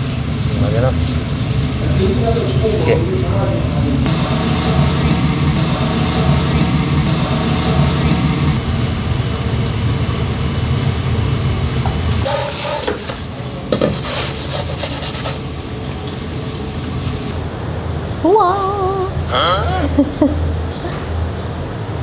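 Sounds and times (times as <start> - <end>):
low kitchen rumble: 0.0 - 22.0.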